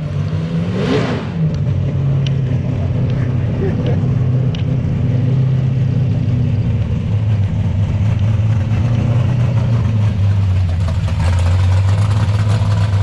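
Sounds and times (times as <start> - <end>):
truck engine idling: 2.2 - 13.0.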